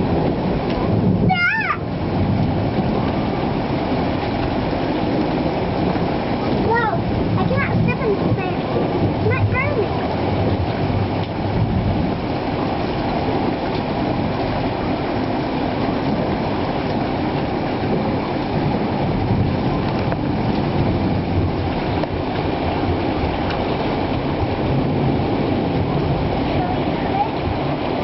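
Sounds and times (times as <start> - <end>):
low thunder rumbling: 0.0 - 28.0.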